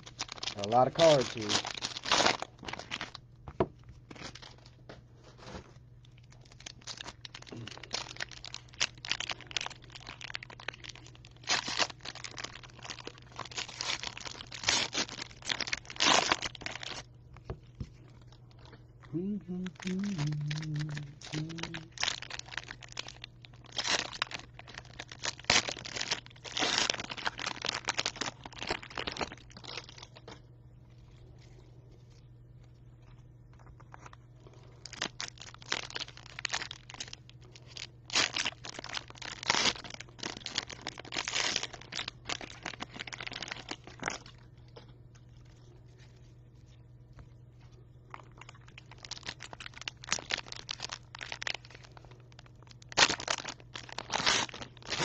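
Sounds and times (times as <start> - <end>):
cellophane wrappers crinkling: 0.0 - 3.2, 4.0 - 17.1, 17.9 - 46.7, 47.5 - 55.0.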